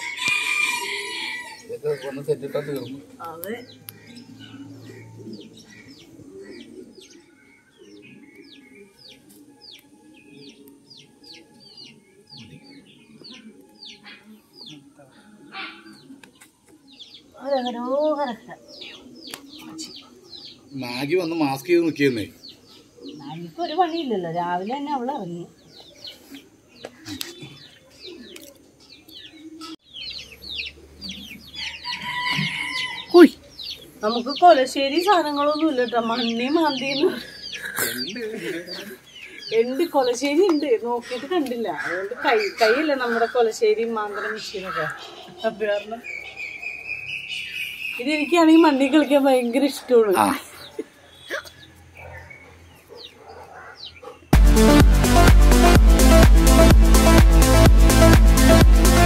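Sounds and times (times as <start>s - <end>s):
lower bird sounds: 0.0s - 59.0s.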